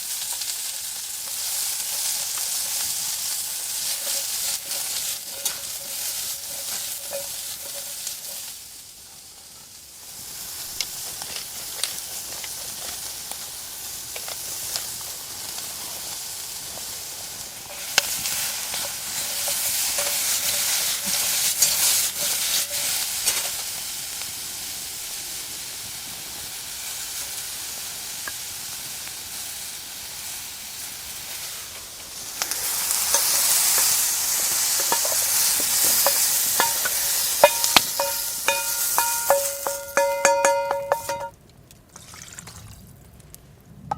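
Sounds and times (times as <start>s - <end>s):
food sizzling in a pot: 0.0s - 41.3s.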